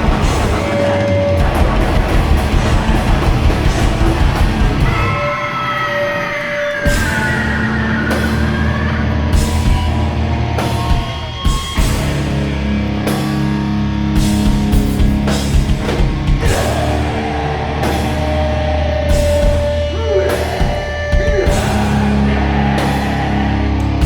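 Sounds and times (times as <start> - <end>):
drum and cymbal hits: 0.0 - 5.2, 6.8 - 24.0
distorted guitar and bass: 0.0 - 24.0.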